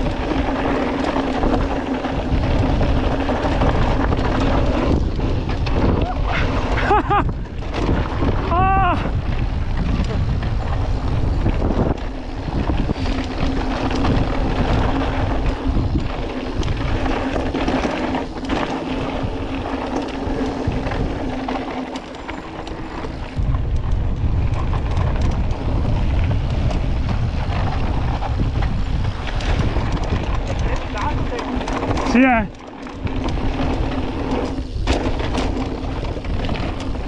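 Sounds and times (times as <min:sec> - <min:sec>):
bike parts rattling: 0:00.0 - 0:37.0
bike tyres on dirt: 0:00.0 - 0:37.0
wind buffeting microphone: 0:00.0 - 0:37.0.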